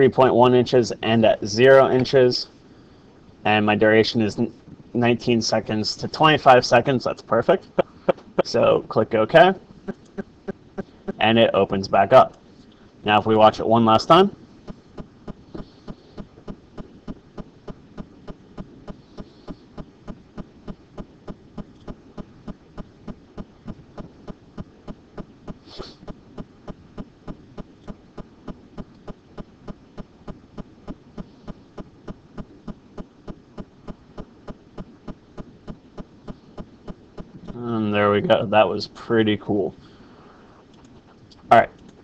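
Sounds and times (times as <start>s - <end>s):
low background hum: 0.0s - 42.0s
rhythmic pulsing: 4.6s - 12.4s, 13.0s - 42.0s.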